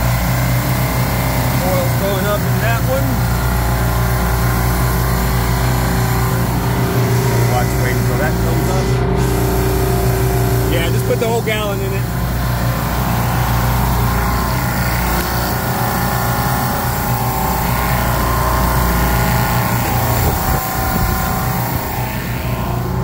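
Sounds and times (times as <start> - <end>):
refrigeration compressors droning: 0.0 - 23.0.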